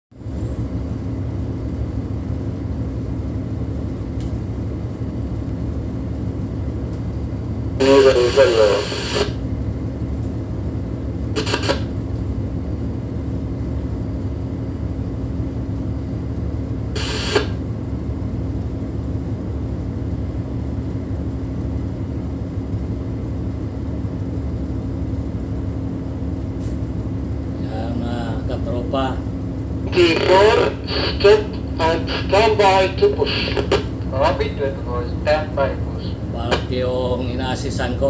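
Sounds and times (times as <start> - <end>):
diesel engine droning: 0.1 - 38.0.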